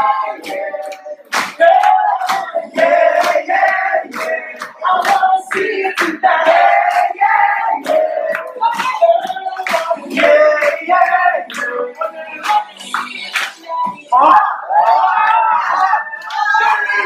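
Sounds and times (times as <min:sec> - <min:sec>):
hand clapping: 0:00.0 - 0:14.1, 0:14.8 - 0:17.0
group of voices singing: 0:00.0 - 0:17.0.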